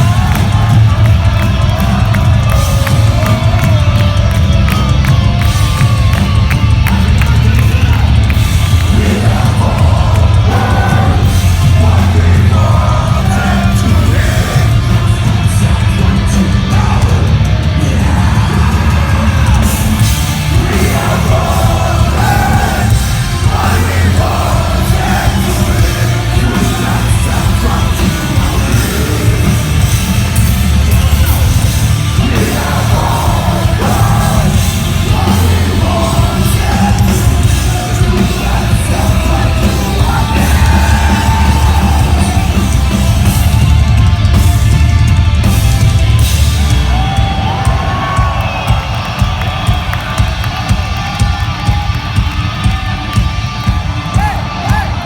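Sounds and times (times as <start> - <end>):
metalcore band playing live: 0.0 - 55.0
screamed and sung vocals: 0.0 - 55.0.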